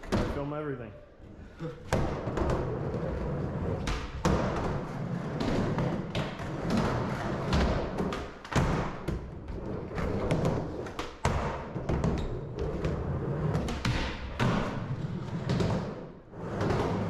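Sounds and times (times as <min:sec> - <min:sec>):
skateboard wheels rolling: 0:02.0 - 0:17.0.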